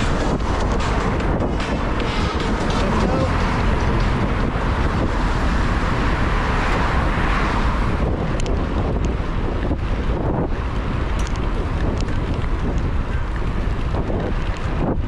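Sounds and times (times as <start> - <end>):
road and traffic noise: 0.0 - 15.0
wind rushing over microphone: 0.0 - 15.0.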